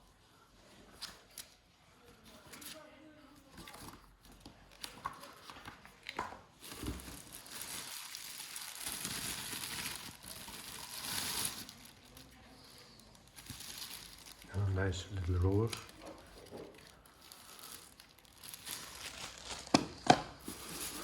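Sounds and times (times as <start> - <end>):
packaging crinkling and rustling: 3.5 - 21.0.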